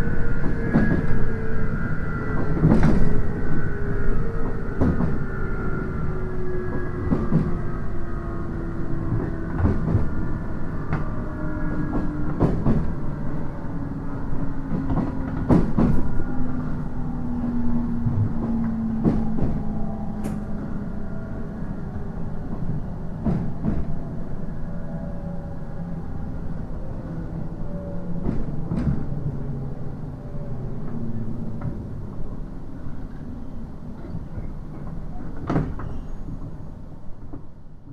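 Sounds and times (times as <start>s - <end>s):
train motor and gear whine: 0.0s - 37.9s
train rumble: 0.0s - 37.9s.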